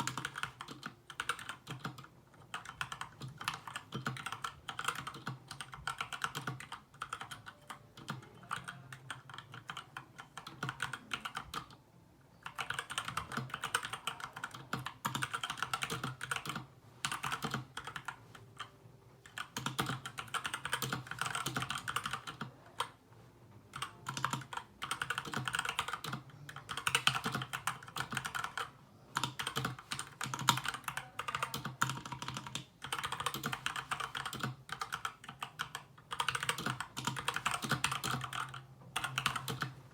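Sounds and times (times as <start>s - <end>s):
fast typing on mechanical keyboard: 0.0s - 11.8s, 12.4s - 23.0s, 23.7s - 39.8s.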